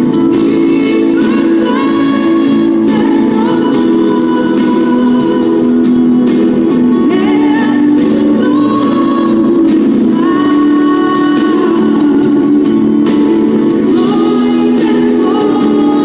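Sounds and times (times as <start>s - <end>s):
worship song singing: 0.0s - 16.0s.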